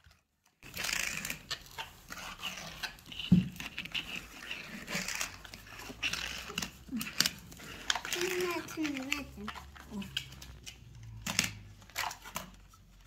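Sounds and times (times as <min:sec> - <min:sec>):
toy cars rolling on wooden floor: 0:00.0 - 0:13.0.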